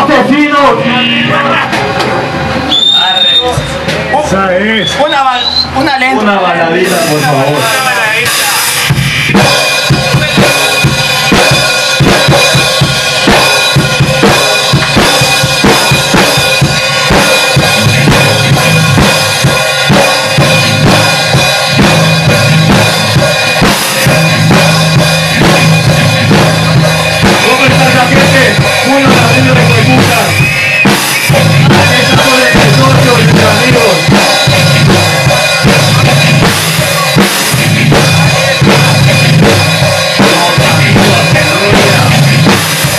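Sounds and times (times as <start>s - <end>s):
distorted guitar: 0.0s - 42.9s
rapid dense drumming: 0.0s - 42.9s.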